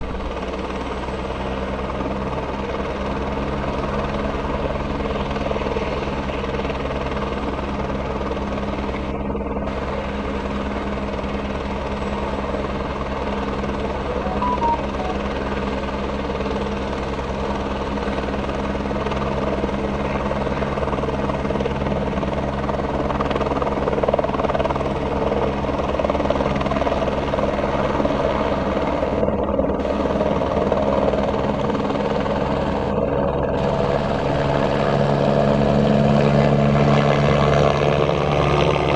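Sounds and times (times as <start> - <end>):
helicopter engine: 0.1 - 38.9.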